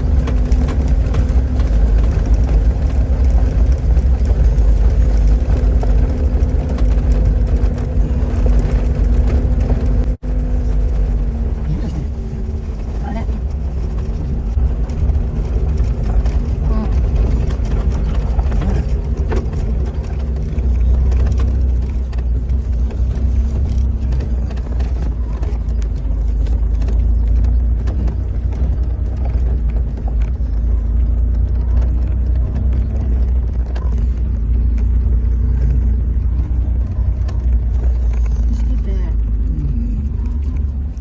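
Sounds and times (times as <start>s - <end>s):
low rumble of vehicle motor: 0.0s - 41.0s.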